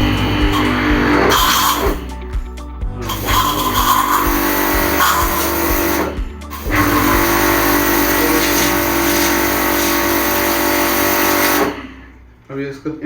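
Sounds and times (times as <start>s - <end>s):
pressure washer motor humming: 0.0s - 2.4s, 3.0s - 11.9s.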